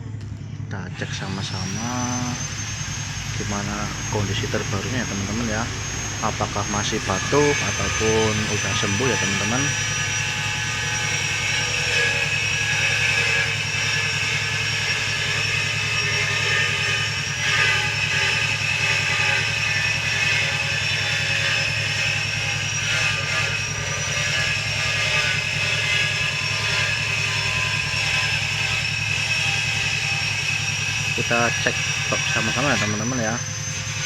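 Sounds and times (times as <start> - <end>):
high whining tones: 0.0 - 34.0
low pulsing machine hum: 0.0 - 34.0.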